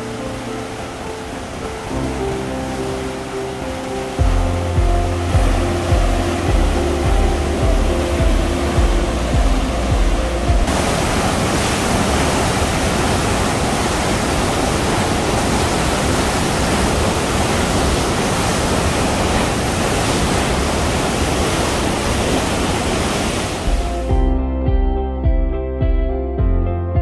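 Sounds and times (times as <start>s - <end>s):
churning white water rushing: 0.0s - 24.1s.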